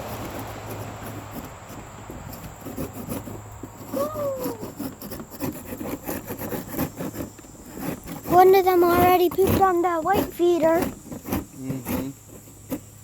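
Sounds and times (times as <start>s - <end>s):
scraper scraping sand off floor: 0.0s - 13.0s.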